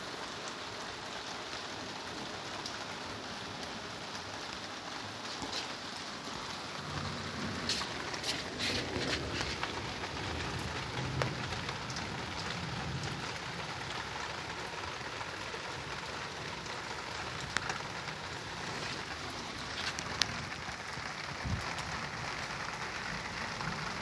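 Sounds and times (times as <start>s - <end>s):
heavy rain hissing: 0.0s - 24.0s
sharp drips and taps: 2.3s - 24.0s.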